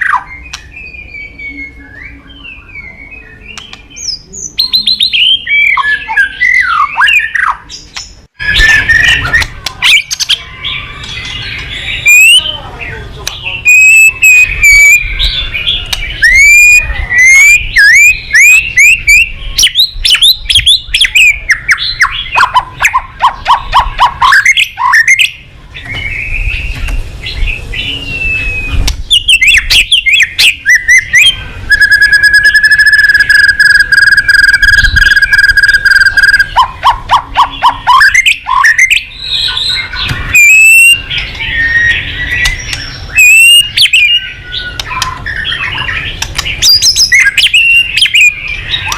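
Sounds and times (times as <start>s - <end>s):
bird singing varied whistles: 0.0s - 12.7s, 13.5s - 48.9s.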